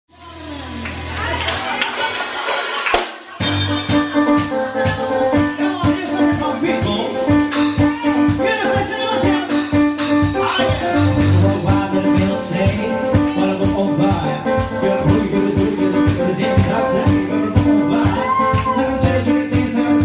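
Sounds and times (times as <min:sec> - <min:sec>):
drum kit beat: 0:01.5 - 0:20.0
bass notes: 0:03.4 - 0:20.0
electronic keyboard chords: 0:03.4 - 0:20.0.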